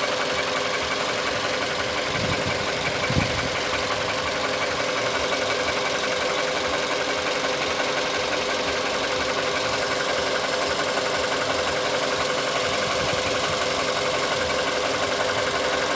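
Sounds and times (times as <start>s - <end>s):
car engine idling with knock: 0.0s - 15.9s.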